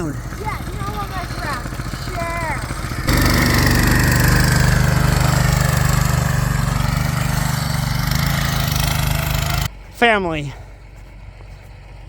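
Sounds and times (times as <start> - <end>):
vehicle engine running under load: 0.0 - 9.9, 10.6 - 12.0.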